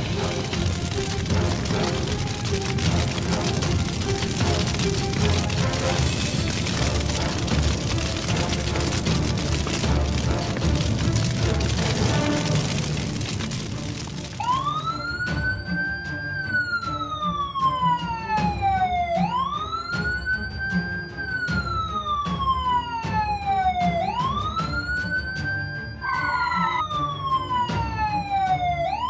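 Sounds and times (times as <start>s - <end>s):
wailing siren: 0.0s - 29.0s.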